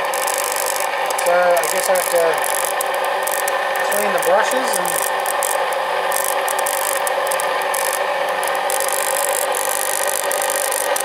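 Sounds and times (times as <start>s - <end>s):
motor-generator humming: 0.0s - 11.0s.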